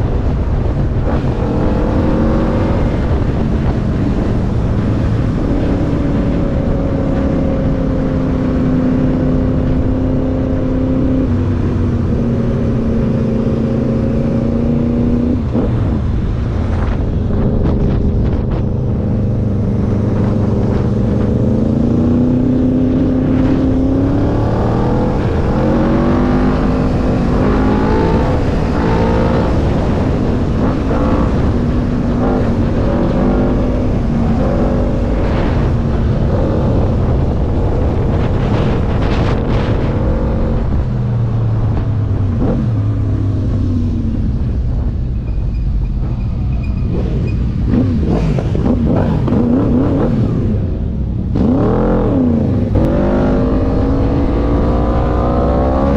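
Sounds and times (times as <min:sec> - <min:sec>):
road rumble: 0:00.0 - 0:55.9
wind noise: 0:00.0 - 0:55.9.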